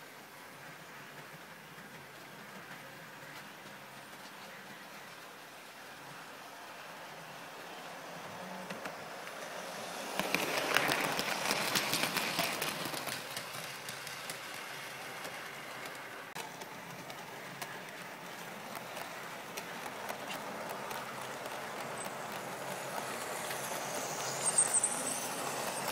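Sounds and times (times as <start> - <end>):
model train wheels clicking: 0.4 - 25.9.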